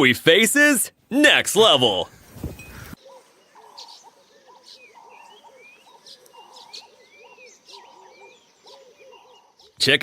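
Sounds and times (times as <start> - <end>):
chorus of birds chirping: 1.5 - 10.0.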